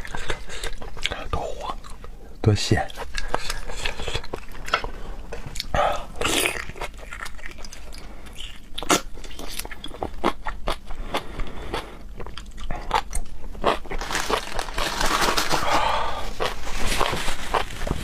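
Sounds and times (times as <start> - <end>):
close chewing and biting food: 0.0 - 2.2, 2.8 - 18.0.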